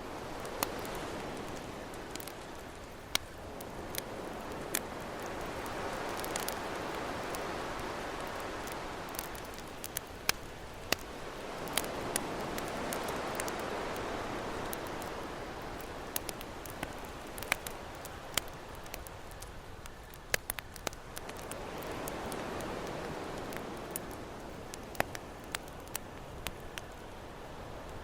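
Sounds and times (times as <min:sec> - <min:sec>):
ocean surf: 0:00.0 - 0:19.7, 0:21.2 - 0:28.0
campfire crackling and popping: 0:00.0 - 0:28.0.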